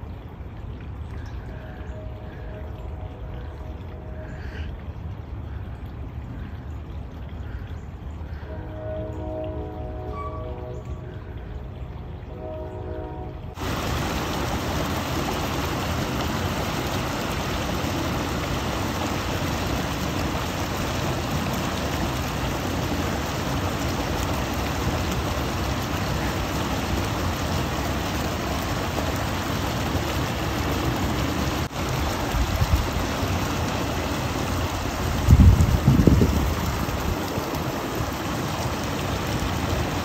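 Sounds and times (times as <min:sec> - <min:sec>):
water rushing over spillway: 0:00.0 - 0:40.0.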